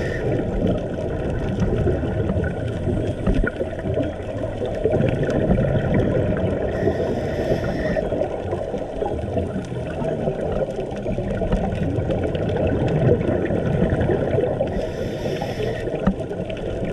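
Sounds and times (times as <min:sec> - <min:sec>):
muffled underwater rumble: 0:00.0 - 0:16.9
scuba regulator breath bubbling: 0:00.0 - 0:16.9.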